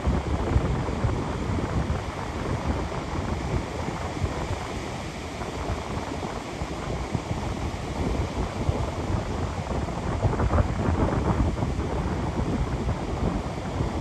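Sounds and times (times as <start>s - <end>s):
ocean surf washing onto beach: 0.0s - 14.0s
wind buffeting microphone: 0.0s - 14.0s.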